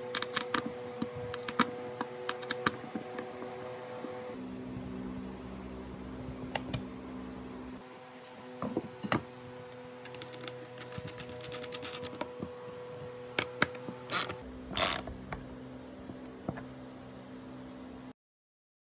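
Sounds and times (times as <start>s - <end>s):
steady background hum: 0.0s - 18.1s.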